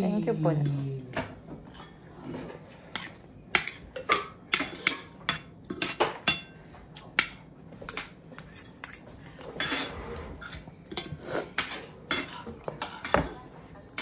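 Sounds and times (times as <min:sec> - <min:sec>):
cutlery clinking on a plate: 0:00.6 - 0:14.0.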